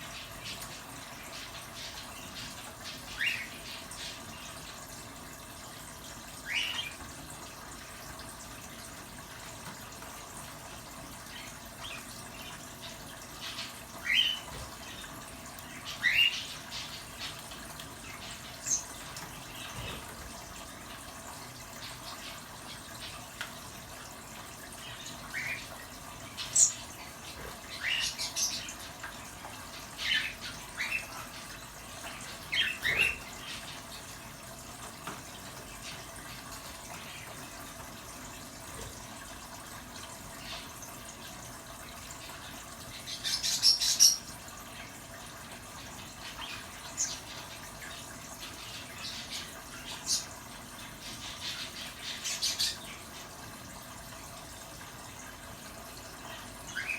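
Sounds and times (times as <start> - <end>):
pet birds chirping and squawking: 0.0 - 8.2, 11.1 - 23.4, 24.1 - 41.0, 42.0 - 44.9, 45.8 - 53.4, 56.2 - 56.9.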